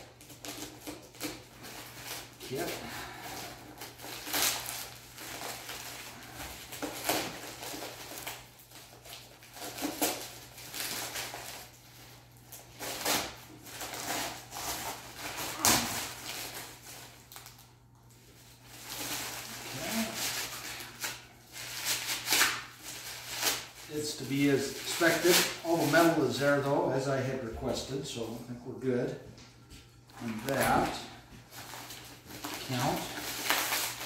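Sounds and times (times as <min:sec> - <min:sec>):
paper tearing and crumpling: 0:00.0 - 0:17.6, 0:18.3 - 0:26.4, 0:30.2 - 0:34.0.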